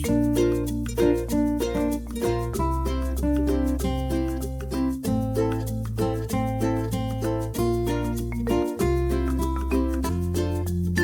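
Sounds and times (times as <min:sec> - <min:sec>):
upbeat plucked string music: 0:00.0 - 0:11.0.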